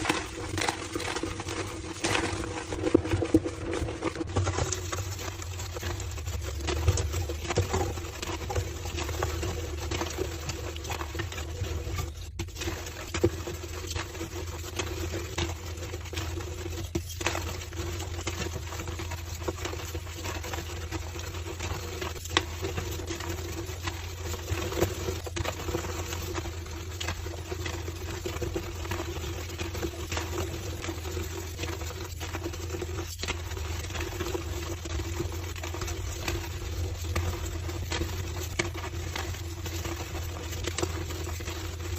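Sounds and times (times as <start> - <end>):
constant low hum: 0.0 - 41.9.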